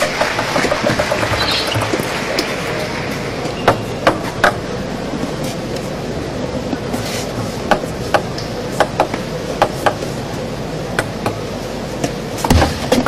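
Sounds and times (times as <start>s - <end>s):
steady hall hum: 0.0s - 13.0s.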